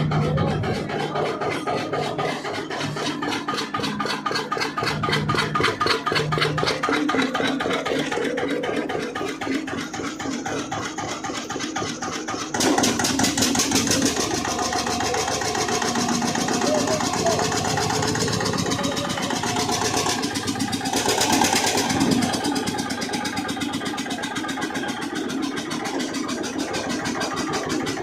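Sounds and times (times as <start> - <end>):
diesel engine knocking: 0.0 - 28.0.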